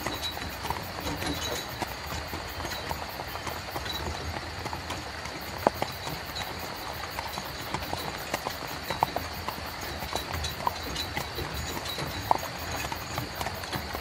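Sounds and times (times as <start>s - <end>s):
hooves clip-clopping: 0.0s - 14.0s
rumble of rolling wheels: 0.0s - 14.0s.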